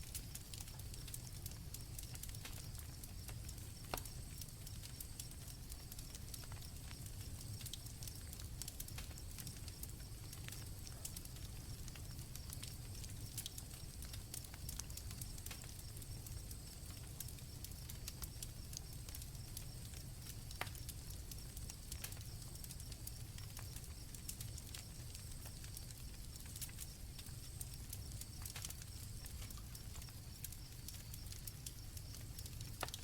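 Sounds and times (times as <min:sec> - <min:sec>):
campfire crackling and popping: 0:00.0 - 0:33.0
crickets trilling: 0:01.0 - 0:33.0.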